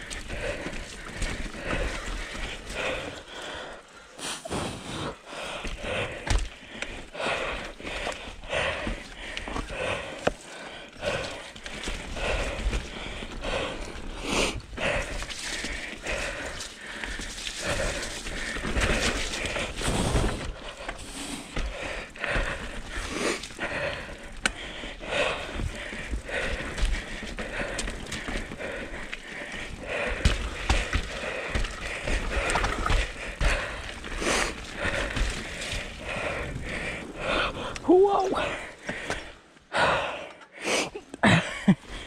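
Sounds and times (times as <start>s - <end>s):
bike tyres on dirt trail: 0.0s - 40.1s.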